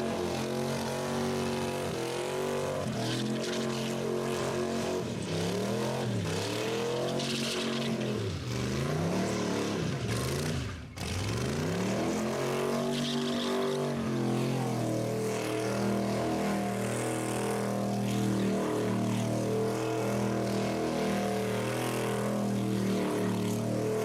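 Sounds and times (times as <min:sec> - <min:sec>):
engine revving hard: 0:00.0 - 0:24.0.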